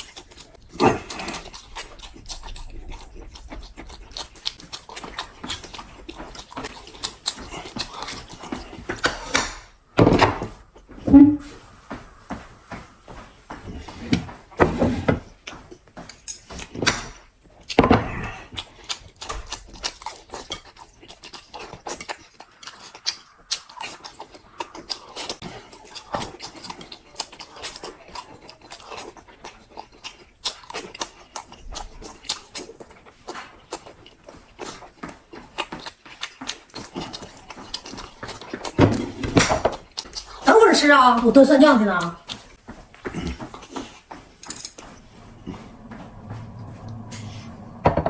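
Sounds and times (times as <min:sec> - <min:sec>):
chewing and mouth smacking: 0:00.0 - 0:09.8, 0:15.7 - 0:40.5, 0:42.1 - 0:46.2.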